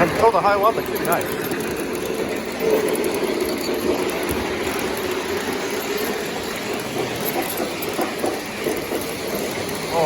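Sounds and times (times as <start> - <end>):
model trains whirring on track: 0.0 - 10.0.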